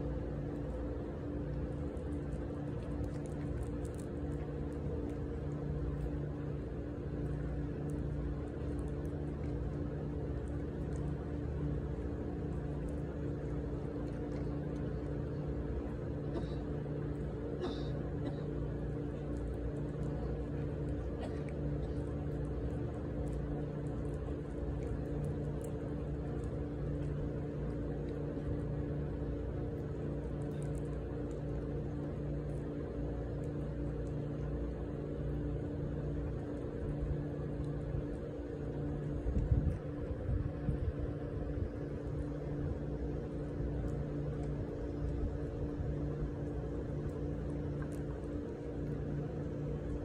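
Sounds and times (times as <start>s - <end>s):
cat crunching dry kibble: 0.0s - 50.0s
low mechanical hum: 0.0s - 50.0s.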